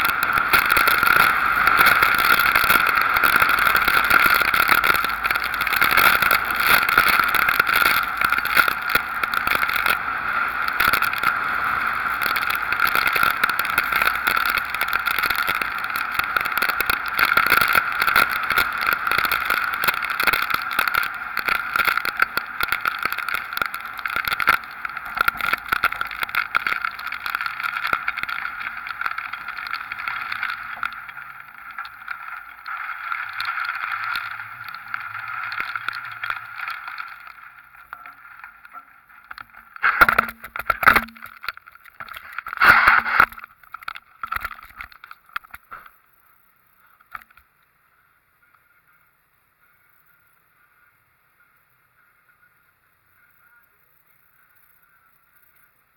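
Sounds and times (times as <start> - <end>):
rain pelting: 0.0 - 46.0.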